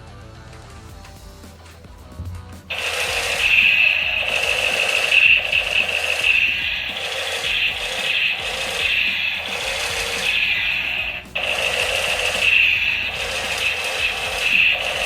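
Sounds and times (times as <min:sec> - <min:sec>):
toy gun rattling: 0:02.7 - 0:15.0.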